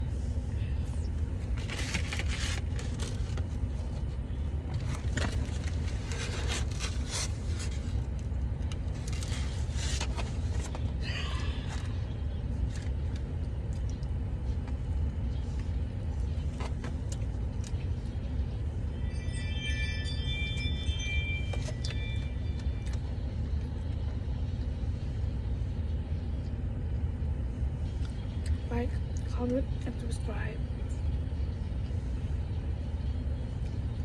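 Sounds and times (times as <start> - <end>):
car cabin engine rumble: 0.0 - 34.0.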